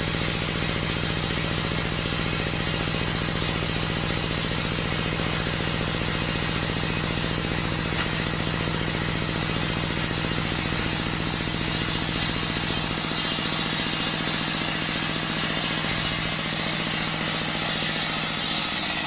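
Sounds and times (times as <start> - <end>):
engine driving circular saw: 0.0 - 19.0.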